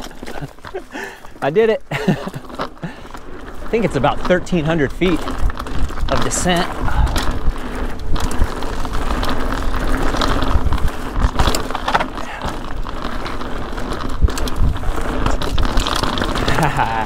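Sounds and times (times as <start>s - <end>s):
bike clicks and knocks: 0.0s - 17.0s
tyres crunching over dirt and stones: 0.0s - 17.0s.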